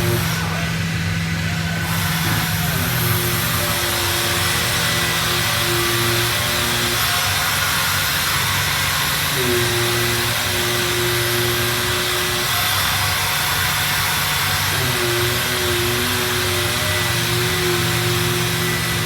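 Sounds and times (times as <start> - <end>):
motor tone: 0.0 - 19.0
sanding machine hiss and hum: 0.0 - 19.0.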